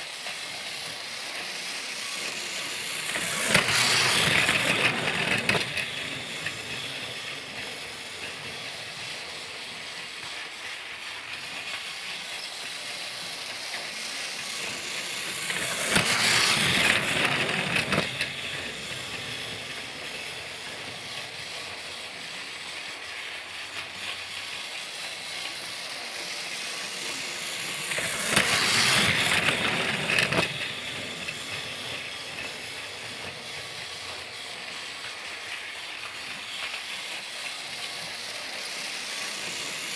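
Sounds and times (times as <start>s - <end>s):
toy train whirring and rattling: 0.0s - 39.9s.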